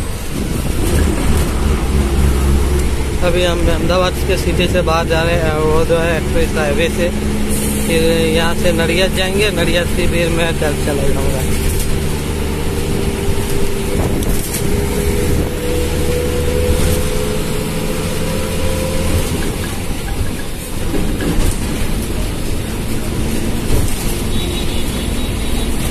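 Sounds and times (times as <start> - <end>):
bus engine hum: 0.0 - 25.9
road noise: 0.0 - 25.9.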